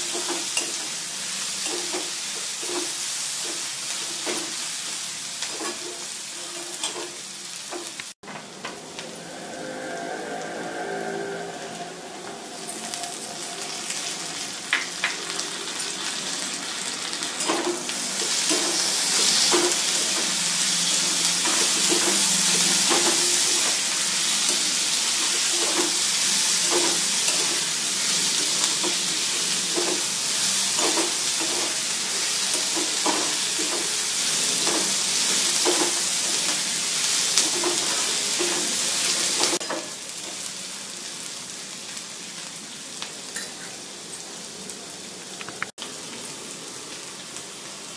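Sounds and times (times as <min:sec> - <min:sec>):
food sizzling in a pan: 0:00.0 - 0:47.9.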